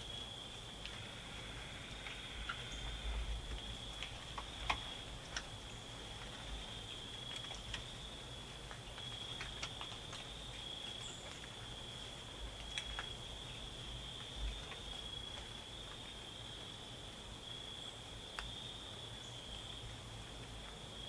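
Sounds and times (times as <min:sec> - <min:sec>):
crickets trilling: 0:00.0 - 0:20.0
faint ticks and clicks: 0:00.1 - 0:16.8, 0:18.2 - 0:18.6.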